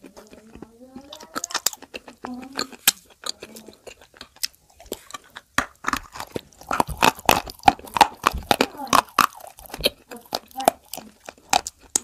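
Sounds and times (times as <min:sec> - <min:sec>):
crunchy biting and chewing: 0:00.0 - 0:12.0.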